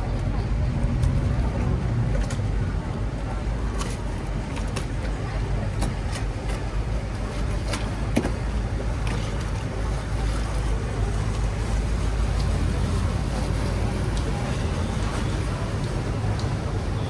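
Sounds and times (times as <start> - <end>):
motorboat engine rumbling: 0.0 - 17.0.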